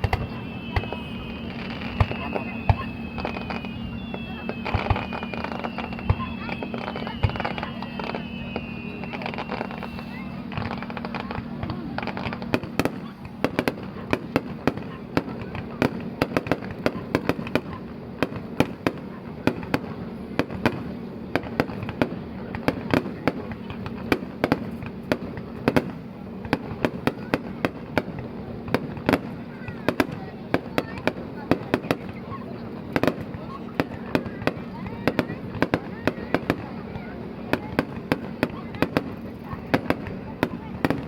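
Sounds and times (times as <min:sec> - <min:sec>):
fireworks popping and crackling: 0:00.0 - 0:41.0.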